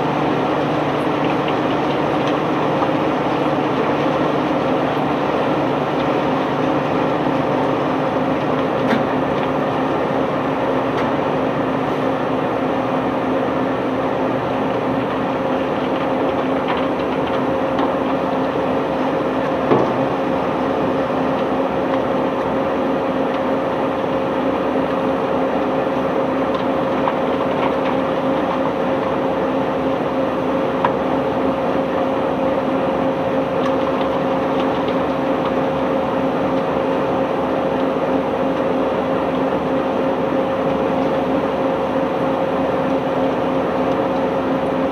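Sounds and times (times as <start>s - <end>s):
diesel machinery droning: 0.0s - 44.9s.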